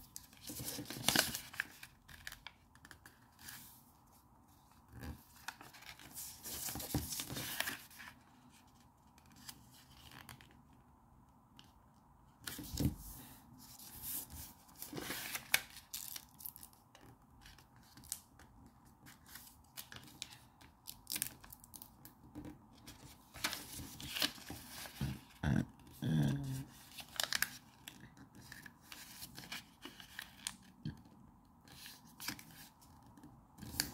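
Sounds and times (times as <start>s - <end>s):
paper rustling and crinkling: 0.0s - 3.8s, 4.7s - 10.6s, 12.4s - 25.4s, 26.5s - 30.7s, 31.7s - 33.9s.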